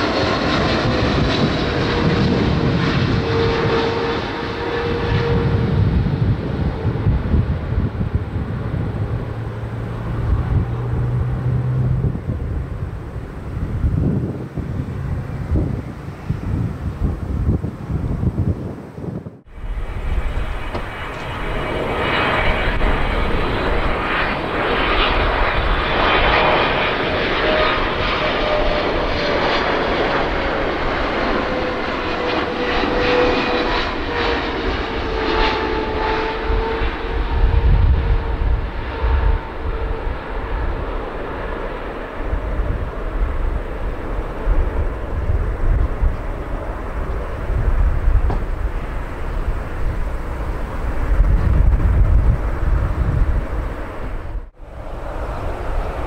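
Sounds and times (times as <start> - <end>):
jet engines passing low: 0.0 - 56.0.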